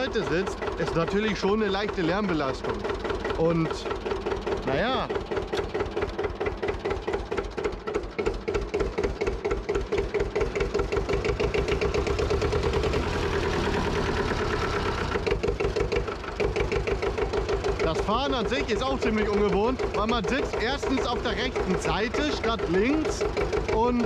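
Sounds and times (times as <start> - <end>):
tractor diesel engine pulsing: 0.0 - 24.0.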